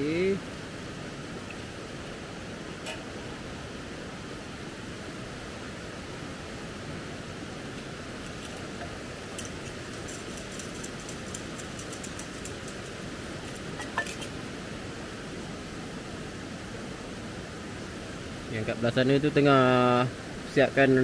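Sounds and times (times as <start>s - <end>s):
gas stove burning hiss: 0.0s - 21.0s.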